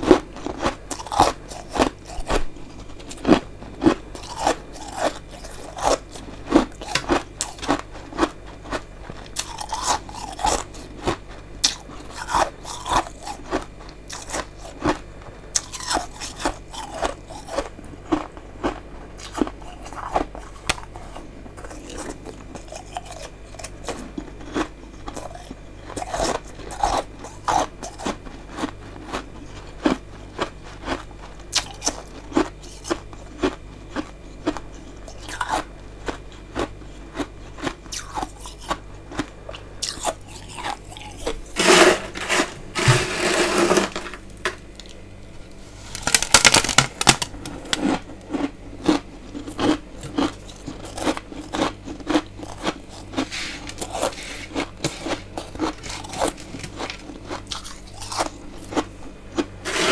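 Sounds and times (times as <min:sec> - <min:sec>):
crunching and chewing frost: 0:00.0 - 0:59.9.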